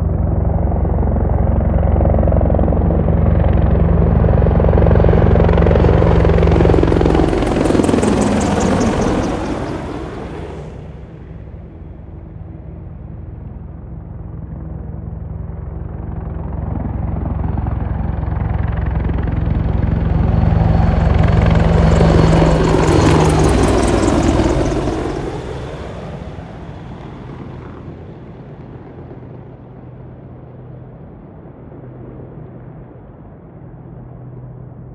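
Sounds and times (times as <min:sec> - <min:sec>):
helicopters flying over: 0:00.0 - 0:34.9.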